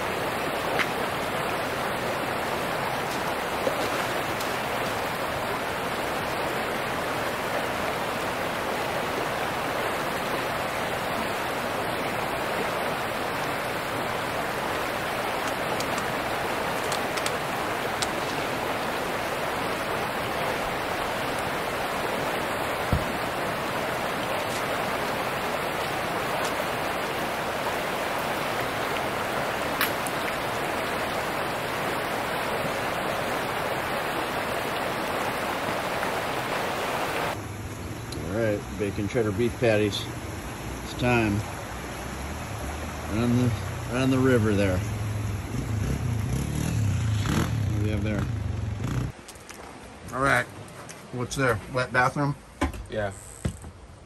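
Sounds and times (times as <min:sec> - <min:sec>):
river rushing over gravel: 0:00.0 - 0:37.5, 0:38.2 - 0:53.1.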